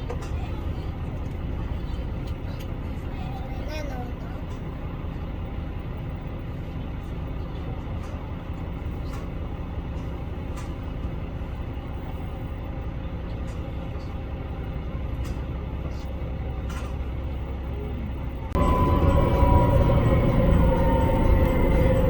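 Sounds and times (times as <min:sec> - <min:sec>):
diesel railcar rumbling: 0:00.0 - 0:22.0.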